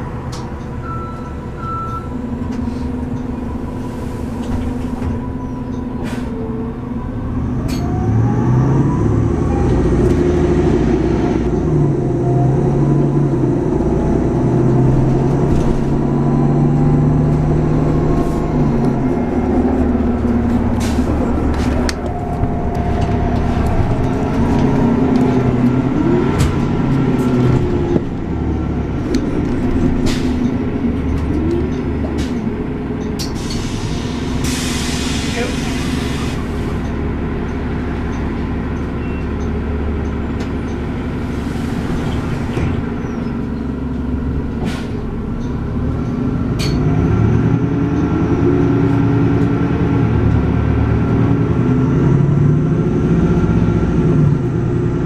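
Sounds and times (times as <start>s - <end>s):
bus engine accelerating: 0.0s - 55.0s.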